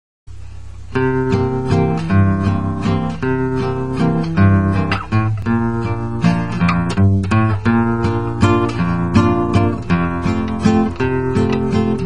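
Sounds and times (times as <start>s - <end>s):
strummed acoustic guitar: 0.5s - 12.0s.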